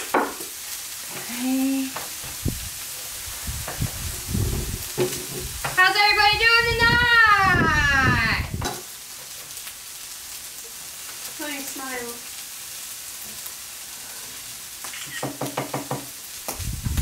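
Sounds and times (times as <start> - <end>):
rice sizzling on griddle: 0.0 - 17.0.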